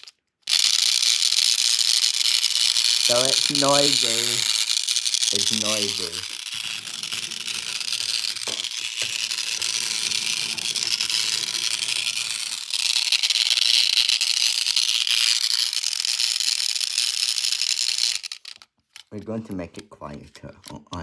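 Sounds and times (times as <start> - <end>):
toy train motor rattling whir: 0.0 - 19.2.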